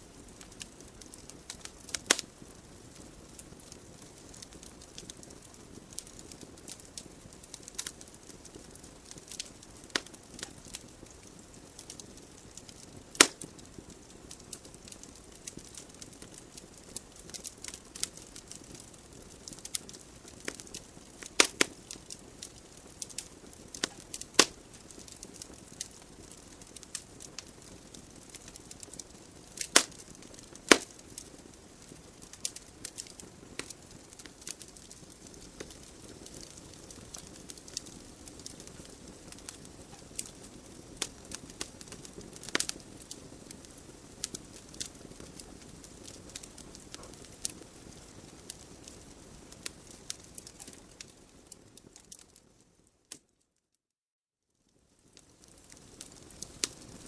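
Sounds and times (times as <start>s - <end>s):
logs crackling and popping: 0.0s - 53.4s, 54.9s - 57.0s
fire hissing: 0.1s - 50.8s.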